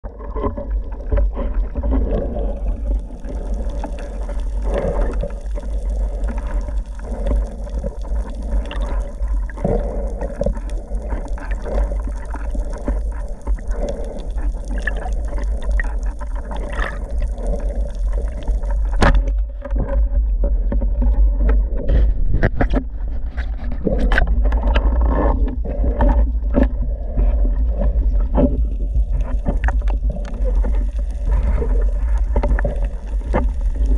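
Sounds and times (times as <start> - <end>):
muffled underwater rumble: 0.0 - 33.9.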